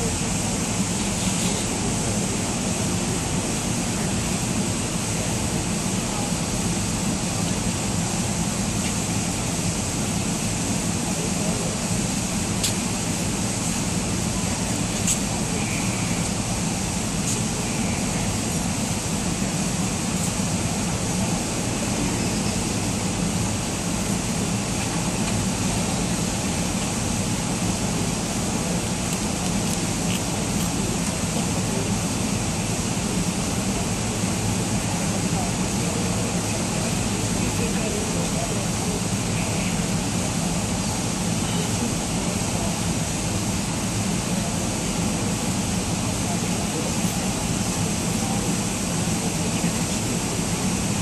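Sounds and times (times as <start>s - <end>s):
low machinery hum: 0.0s - 51.0s
ventilation roar: 0.0s - 51.0s.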